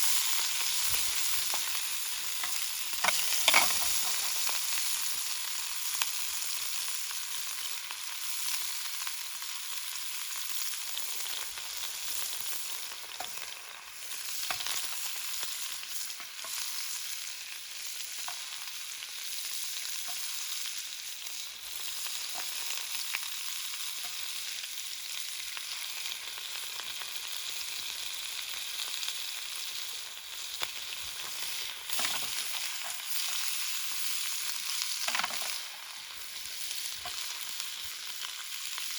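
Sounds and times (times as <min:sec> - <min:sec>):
faint fire crackles: 0:00.0 - 0:38.9
food sizzling in a pan: 0:00.0 - 0:38.9.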